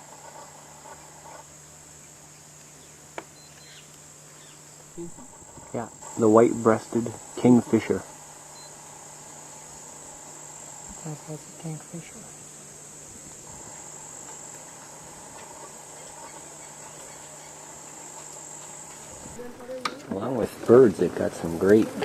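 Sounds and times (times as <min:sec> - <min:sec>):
high-pitched insect buzz: 0:00.0 - 0:20.1.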